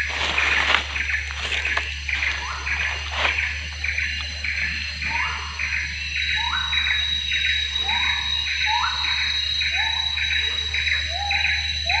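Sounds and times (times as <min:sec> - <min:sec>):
steady high whine: 0:00.0 - 0:12.0.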